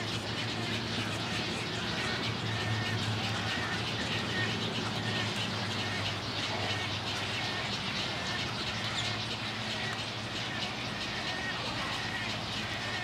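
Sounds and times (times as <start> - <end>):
colony birds calling: 0.0 - 13.0
steady low hum: 0.0 - 13.0.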